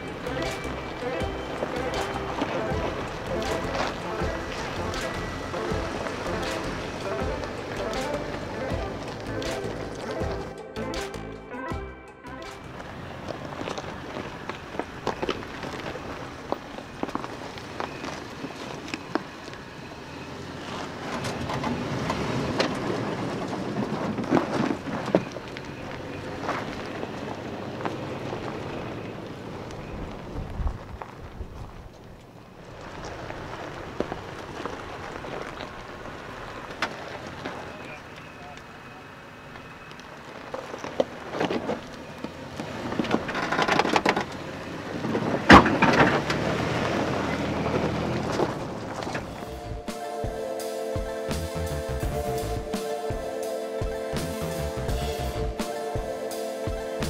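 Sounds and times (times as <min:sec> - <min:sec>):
stones popping under tyres: 0:00.0 - 0:11.2, 0:12.4 - 0:19.7, 0:20.5 - 0:38.7, 0:39.5 - 0:50.4
engine running at low speed: 0:00.0 - 0:50.5
tyres crunching on gravel: 0:00.0 - 0:57.0.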